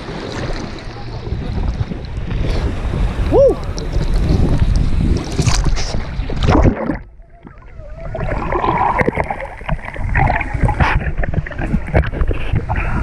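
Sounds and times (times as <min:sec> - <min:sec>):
underwater bubbling and gurgling: 0:00.0 - 0:13.0
water splashing: 0:00.0 - 0:13.0.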